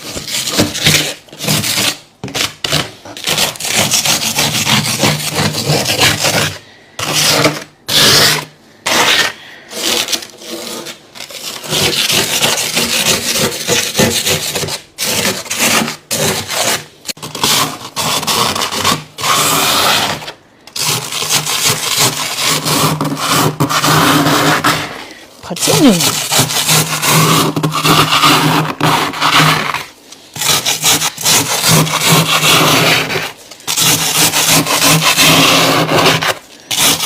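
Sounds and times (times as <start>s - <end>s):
ice being scraped and crunched: 0.0s - 37.0s.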